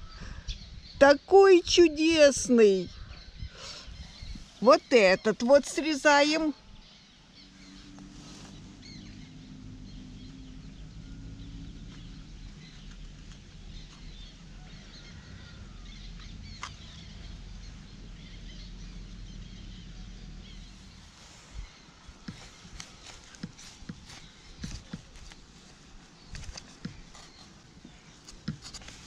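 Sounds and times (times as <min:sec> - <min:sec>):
birds chirping and calling: 0:01.6 - 0:29.0.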